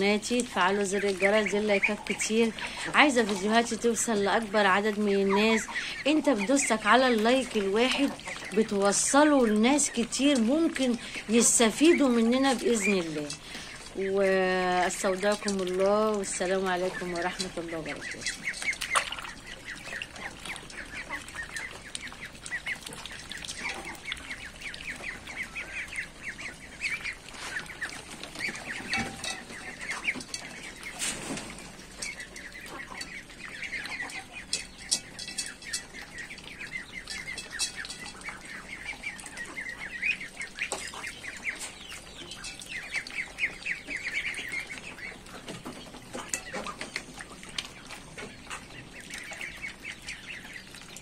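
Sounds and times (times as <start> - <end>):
ducklings peeping: 0.0 - 51.0.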